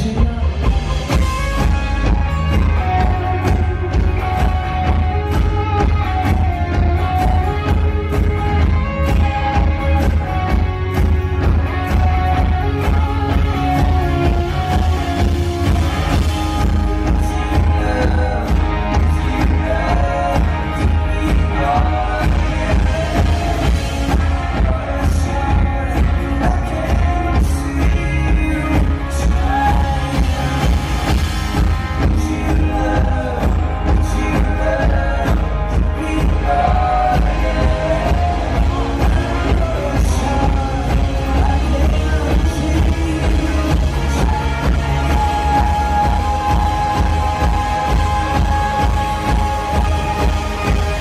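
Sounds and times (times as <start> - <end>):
acoustic guitar: 0.0 - 51.0
bass guitar: 0.0 - 51.0
drum kit: 0.0 - 51.0
electric guitar: 0.0 - 51.0
live rock band playing: 0.0 - 51.0.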